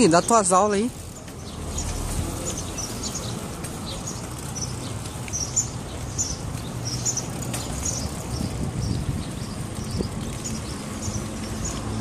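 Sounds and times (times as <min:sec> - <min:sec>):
small birds chirping: 0:00.0 - 0:12.0
street noise rumble: 0:00.0 - 0:12.0.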